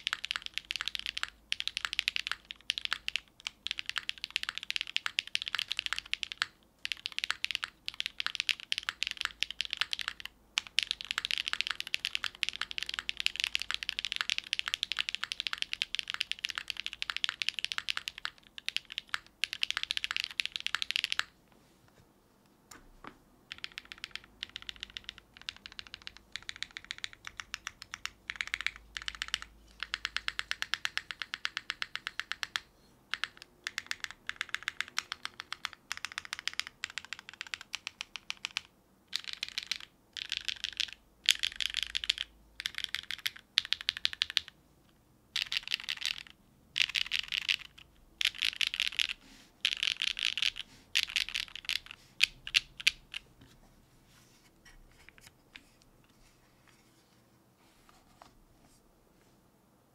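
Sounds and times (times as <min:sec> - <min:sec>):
mechanical keyboard typing: 0:00.0 - 0:21.3, 0:23.5 - 0:44.6, 0:45.3 - 0:53.3.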